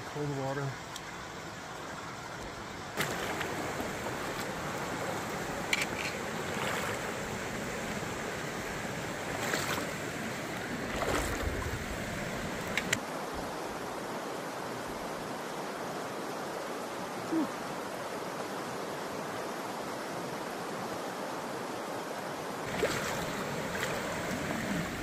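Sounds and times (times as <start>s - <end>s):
creek rushing over stones: 0.0s - 25.0s.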